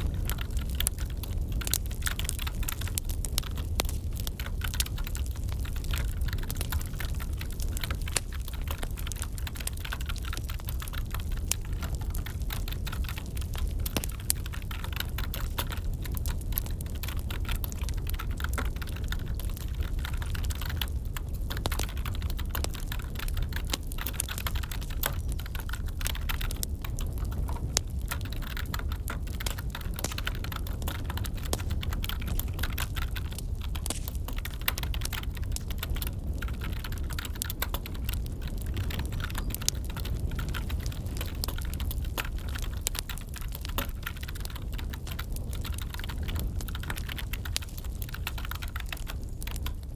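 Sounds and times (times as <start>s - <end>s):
crackling wood fire: 0.0s - 49.9s
steady low rumble: 0.0s - 49.9s.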